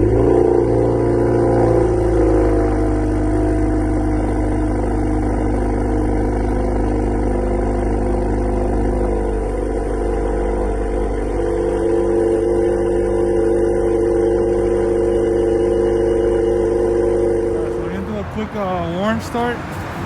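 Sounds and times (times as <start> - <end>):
car exhaust idling drone: 0.0 - 20.0.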